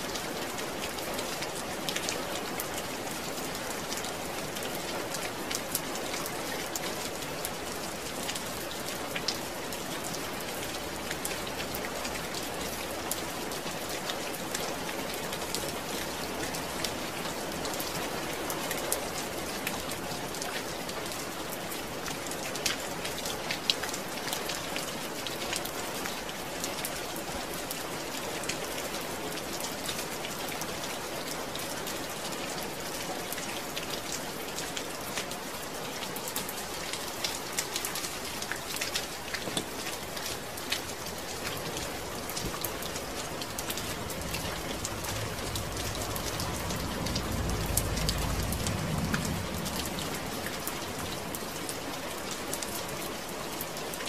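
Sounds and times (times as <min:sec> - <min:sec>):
rain falling: 0:00.0 - 0:54.0
raindrops pattering on a surface: 0:00.0 - 0:54.0.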